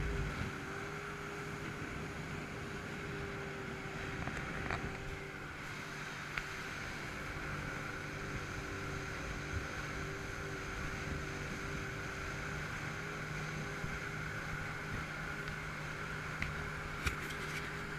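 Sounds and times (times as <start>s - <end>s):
watercraft engine running: 0.0s - 17.9s.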